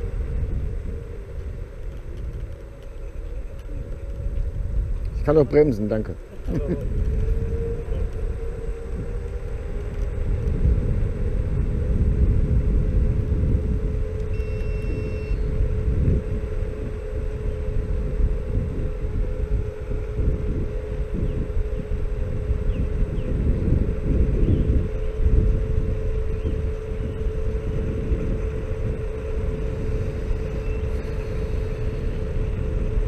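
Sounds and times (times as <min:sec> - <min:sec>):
electric scooter motor whine: 0:00.0 - 0:33.0
tyres rumbling on asphalt: 0:00.0 - 0:33.0
wind on microphone: 0:00.0 - 0:33.0.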